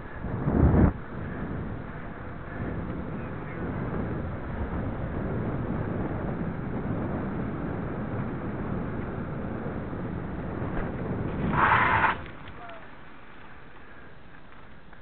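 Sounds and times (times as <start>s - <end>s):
bicycle rolling on asphalt: 0.0s - 15.0s
wind buffeting microphone: 0.0s - 15.0s.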